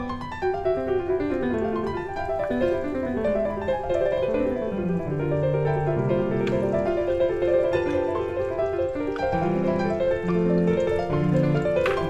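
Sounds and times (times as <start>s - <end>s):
keyboard melody: 0.0s - 12.0s.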